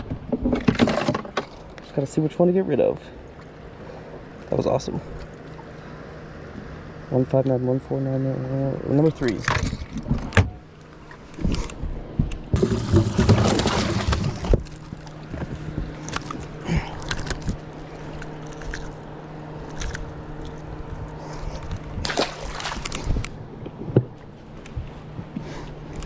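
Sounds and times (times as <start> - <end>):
water sloshing and gurgling: 0.0 - 7.5, 8.9 - 26.0
steady low hum: 0.0 - 26.0.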